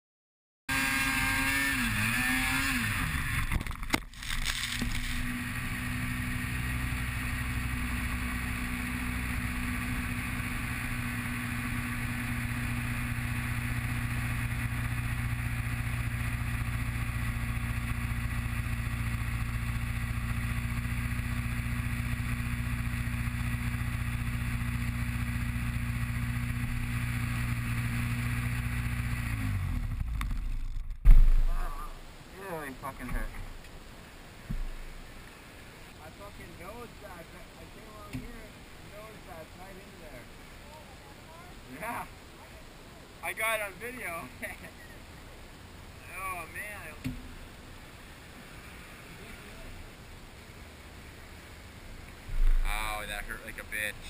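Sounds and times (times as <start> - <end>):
snowmobile engine idling: 0.7 - 54.0.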